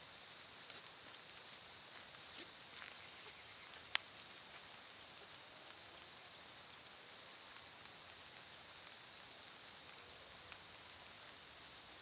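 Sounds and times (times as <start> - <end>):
faint steady hiss: 0.0 - 12.0
water dripping: 0.2 - 12.0.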